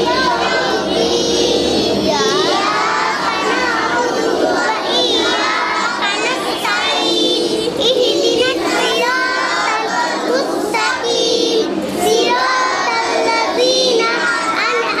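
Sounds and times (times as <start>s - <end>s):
children singing in unison: 0.0s - 15.0s.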